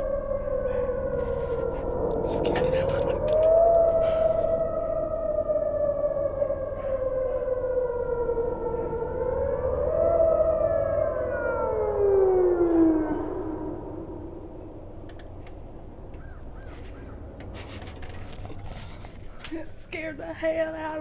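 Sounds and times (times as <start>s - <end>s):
tornado warning siren: 0.0s - 21.0s.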